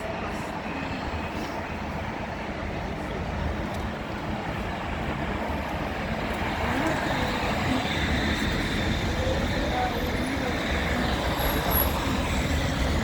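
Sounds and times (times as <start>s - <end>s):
tram and road traffic rumble: 0.0s - 13.0s.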